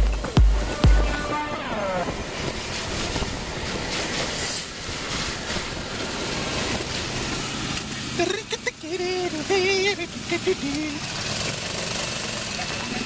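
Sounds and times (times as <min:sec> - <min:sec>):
buggy engine rushing: 0:00.0 - 0:13.0.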